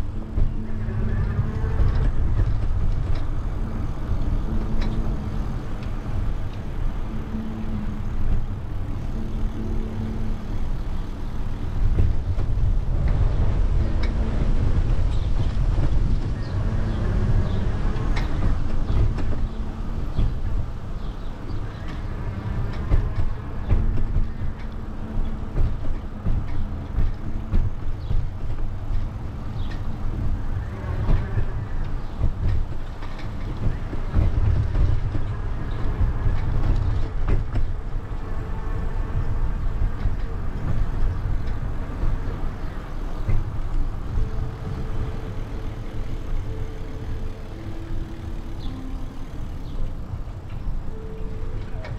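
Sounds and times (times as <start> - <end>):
road noise: 0.0 - 51.9
wind buffeting microphone: 0.0 - 51.9.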